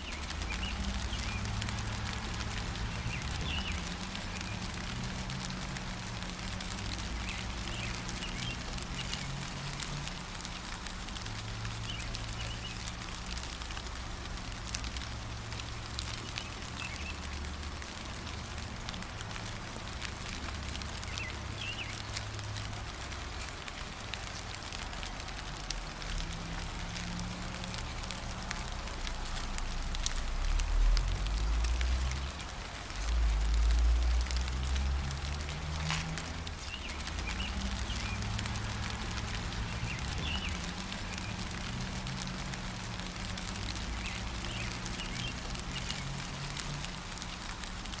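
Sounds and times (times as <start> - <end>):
gentle rain pattering: 0.0 - 48.0.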